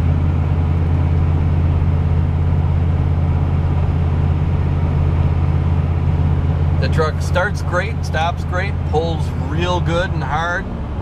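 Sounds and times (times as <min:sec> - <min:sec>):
diesel engine drone in cab: 0:00.0 - 0:11.0
road noise: 0:00.0 - 0:11.0.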